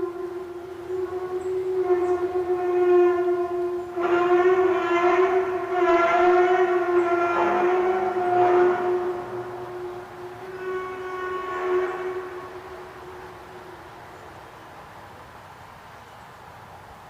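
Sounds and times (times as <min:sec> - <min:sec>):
horn-like drone: 0:00.0 - 0:15.2.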